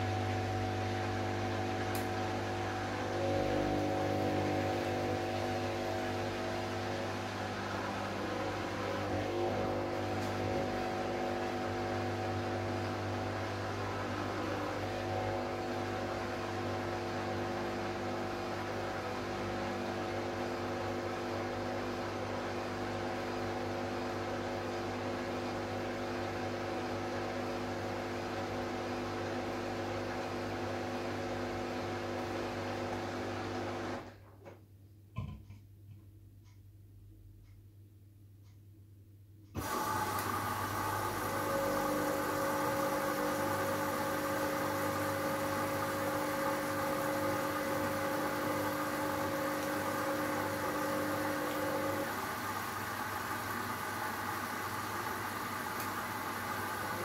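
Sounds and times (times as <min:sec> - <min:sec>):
washing machine humming: 0:00.0 - 0:34.5, 0:39.5 - 0:57.0.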